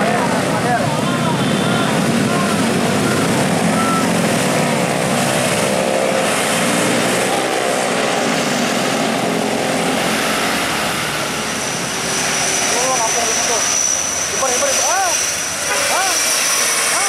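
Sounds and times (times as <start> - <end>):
bus passing: 0.0 - 17.0
motorcycle engines: 0.0 - 17.0.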